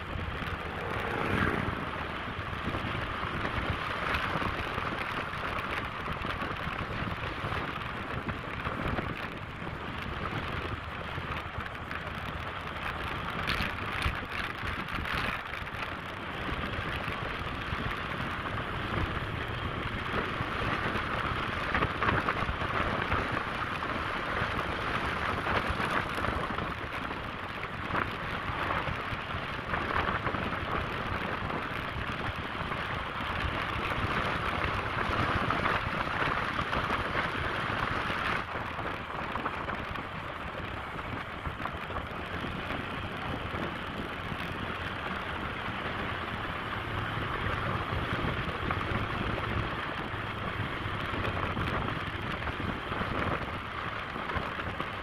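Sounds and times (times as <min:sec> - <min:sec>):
motorcycle road noise: 0:00.0 - 0:55.0
rushing wind: 0:00.0 - 0:55.0.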